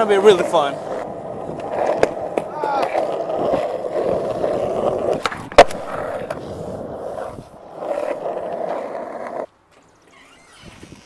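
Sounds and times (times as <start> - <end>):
skateboard clack: 0.0 - 9.5
skateboard wheels rolling on pavement: 0.0 - 11.0.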